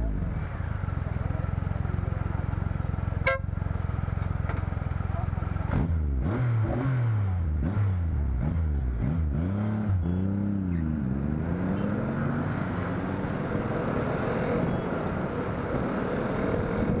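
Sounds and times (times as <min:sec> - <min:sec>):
motorcycle engine revving: 0:00.2 - 0:17.0.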